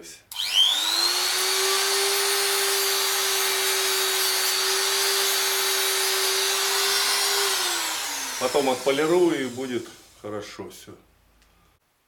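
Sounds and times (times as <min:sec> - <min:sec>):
rotary multitool whining: 0:00.3 - 0:10.1.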